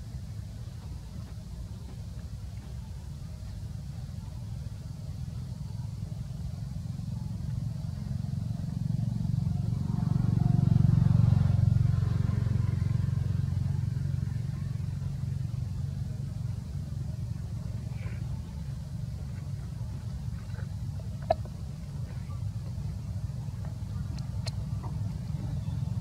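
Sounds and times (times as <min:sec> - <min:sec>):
passing vehicle engine rumble: 0:00.0 - 0:26.0.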